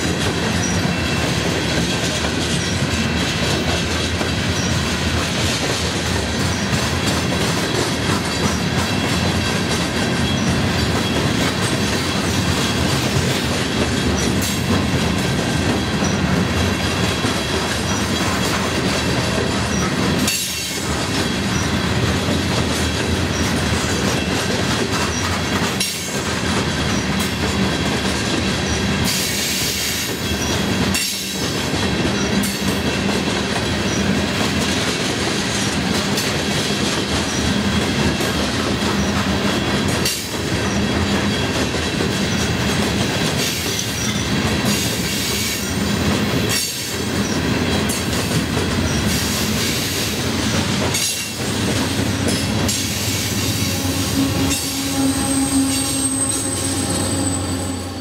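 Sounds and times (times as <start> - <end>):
freight cars rumbling and clattering: 0.0 - 29.2, 30.1 - 58.0
diesel locomotive engine hum: 0.0 - 58.0
train wheels squealing on rails: 0.0 - 58.0.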